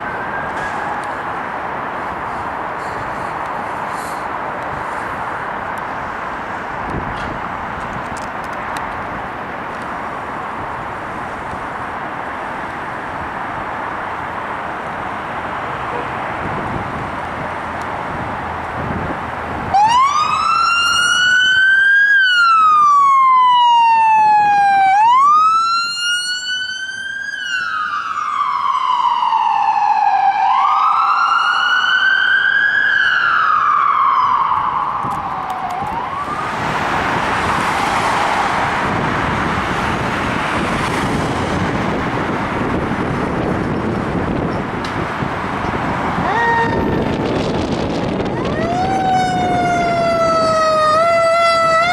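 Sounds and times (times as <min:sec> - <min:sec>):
wailing siren: 0:00.0 - 0:07.1, 0:09.8 - 0:51.9
vehicle and road noise: 0:00.0 - 0:51.9.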